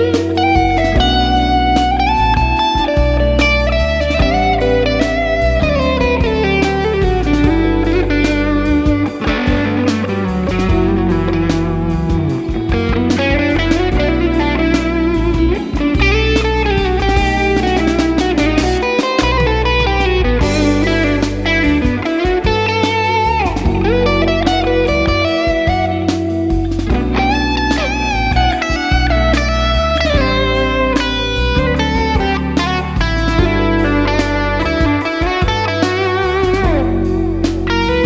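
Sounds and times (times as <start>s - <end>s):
backing track: 0.0s - 38.0s
electric guitar lead line: 0.0s - 38.0s.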